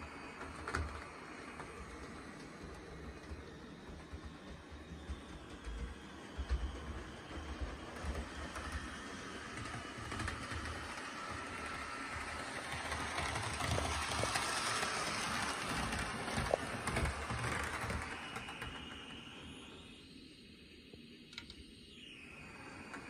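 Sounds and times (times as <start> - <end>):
model train motor whirring: 0.0 - 20.0
wheels clattering on rails: 0.3 - 19.1.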